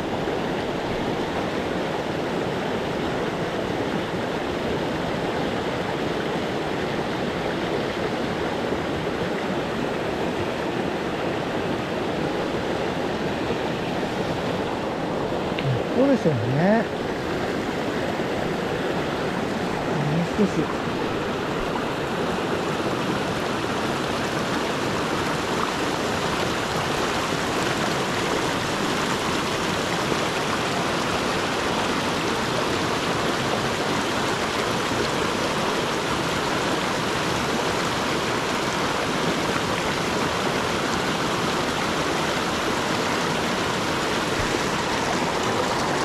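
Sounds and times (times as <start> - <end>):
river rushing over rocks: 0.0 - 46.0.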